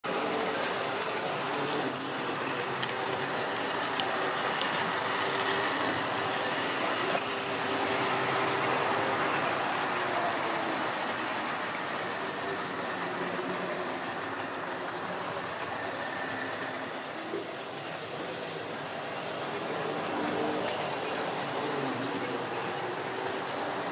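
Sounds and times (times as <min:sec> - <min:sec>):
model train wheels rumbling: 0:00.0 - 0:23.9.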